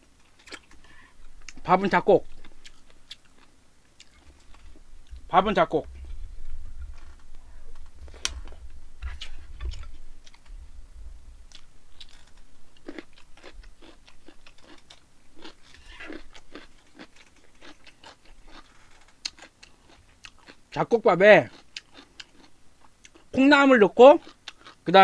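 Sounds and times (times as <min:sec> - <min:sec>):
person chewing: 0:00.0 - 0:10.6, 0:11.4 - 0:20.8, 0:21.4 - 0:23.4, 0:24.2 - 0:24.9.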